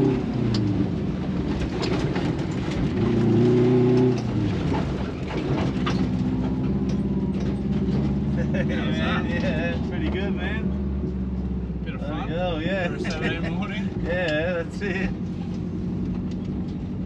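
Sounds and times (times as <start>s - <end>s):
rally car engine: 0.0s - 17.0s.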